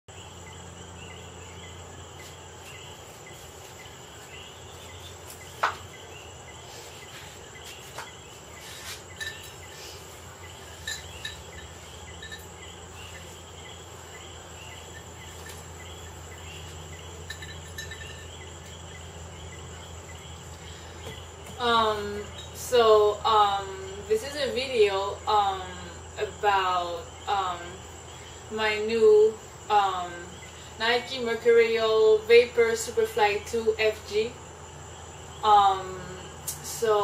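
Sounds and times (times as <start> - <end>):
crickets chirping: 0.1 - 37.0
low hum and hiss: 0.1 - 37.0.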